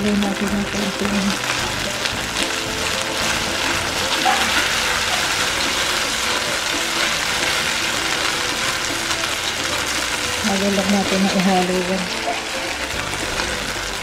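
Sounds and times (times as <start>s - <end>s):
butter sizzling in a wok: 0.0s - 14.0s.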